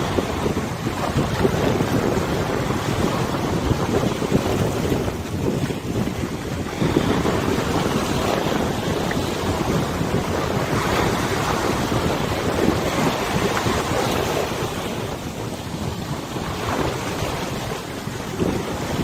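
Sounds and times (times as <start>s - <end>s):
river water lapping: 0.0s - 19.0s
wind buffeting microphone: 0.0s - 19.0s.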